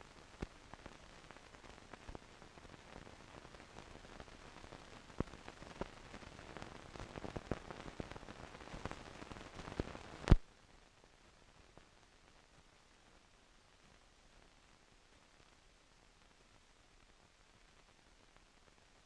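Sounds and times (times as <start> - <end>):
crackles and clicks: 0.0 - 19.0
faint steady hiss: 0.0 - 19.0.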